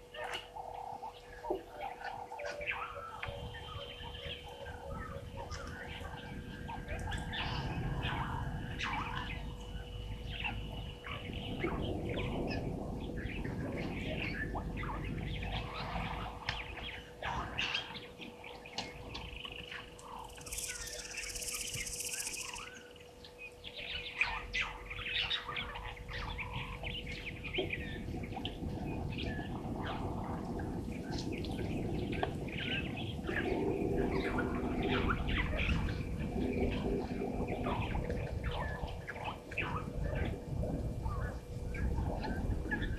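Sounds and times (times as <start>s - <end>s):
birds chirping: 0.0s - 42.9s
faint steady hum: 0.0s - 42.9s.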